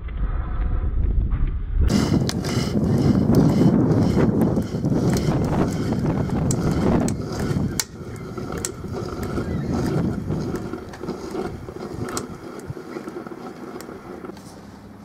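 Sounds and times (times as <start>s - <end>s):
scattered crackles and pops: 1.3s - 14.4s
coffee maker sputtering: 1.9s - 14.4s.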